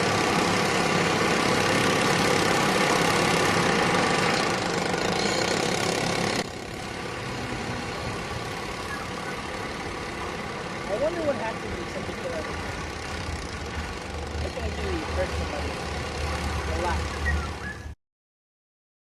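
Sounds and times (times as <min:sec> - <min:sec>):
motor running steadily: 0:00.0 - 0:18.0.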